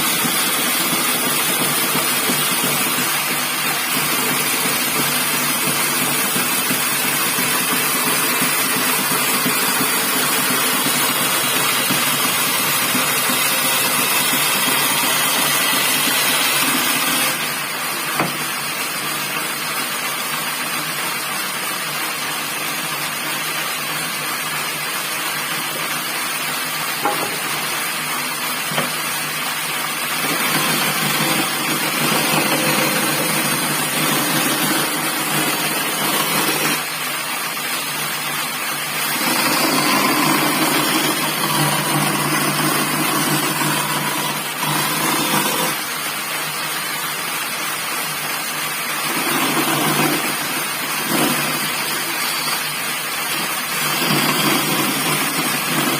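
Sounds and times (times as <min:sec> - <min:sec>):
bandsaw running: 0:00.0 - 0:55.9.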